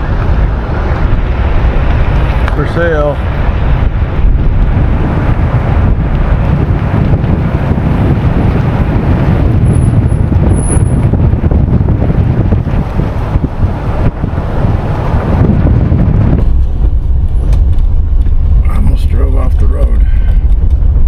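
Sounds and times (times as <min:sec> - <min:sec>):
van driving on road: 0:00.0 - 0:21.0.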